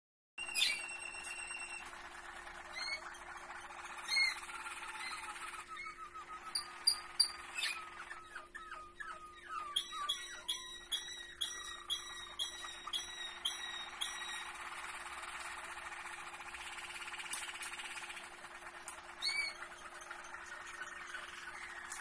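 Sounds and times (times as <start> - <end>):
canaries singing: 0.4 - 22.0.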